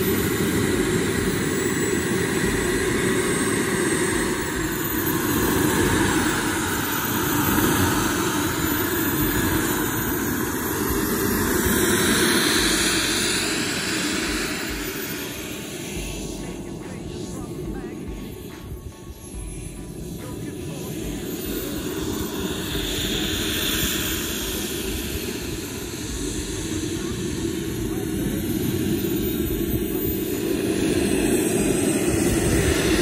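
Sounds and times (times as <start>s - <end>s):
jet turbine whine: 0.0s - 33.0s.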